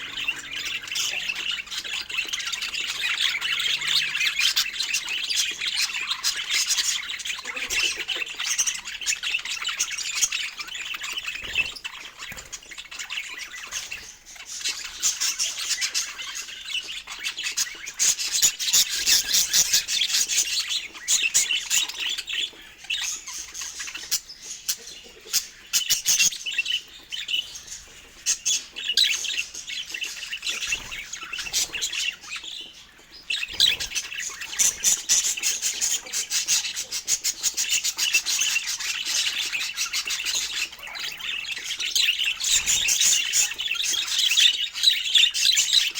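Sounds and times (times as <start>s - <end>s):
budgerigars chirping and warbling: 0.0s - 45.9s.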